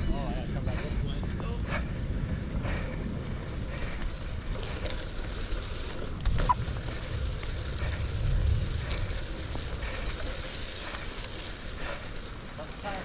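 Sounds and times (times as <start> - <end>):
wind buffeting microphone: 0.0 - 12.6
rain and wet tyres hissing: 0.6 - 13.0.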